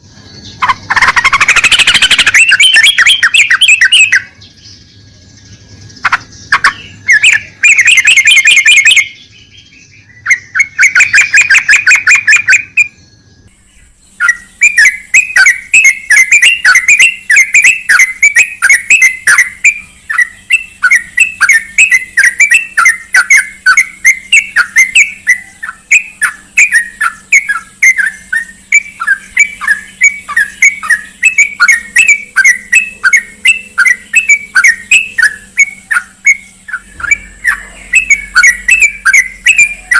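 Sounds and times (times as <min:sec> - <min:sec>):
bird chattering and chirping: 0:00.0 - 0:39.9.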